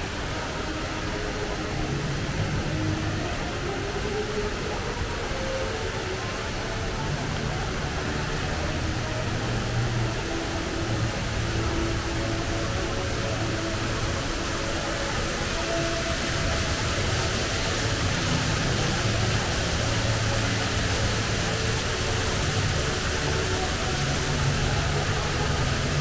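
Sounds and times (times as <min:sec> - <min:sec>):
indoor waterfall rushing: 0:00.0 - 0:26.0.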